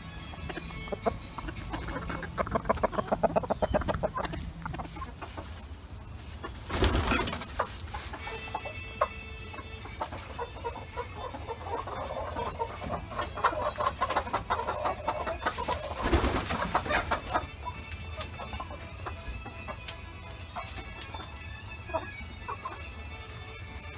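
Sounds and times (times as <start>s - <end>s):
chickens clucking: 0.0s - 23.9s.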